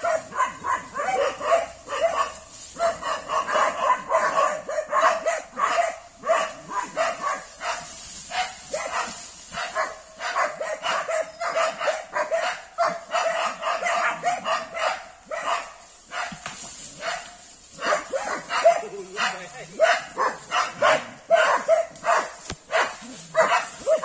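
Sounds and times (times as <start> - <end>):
dogs barking: 0.0 - 24.0.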